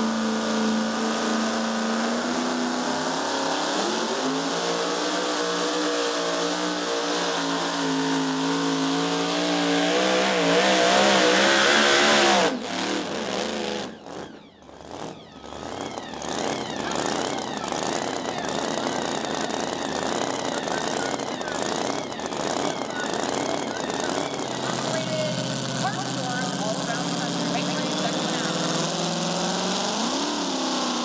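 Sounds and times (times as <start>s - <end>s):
supercharged engine under load: 0.0s - 31.0s.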